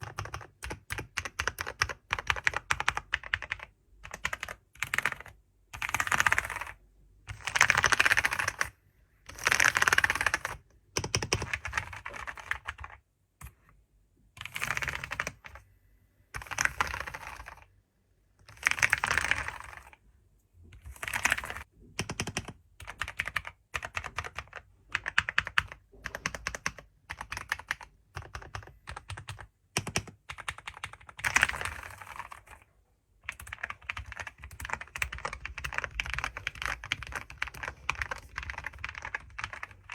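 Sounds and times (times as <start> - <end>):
computer keyboard typing: 0.0 - 13.7, 14.4 - 15.6, 16.3 - 17.7, 18.4 - 20.0, 20.7 - 39.9.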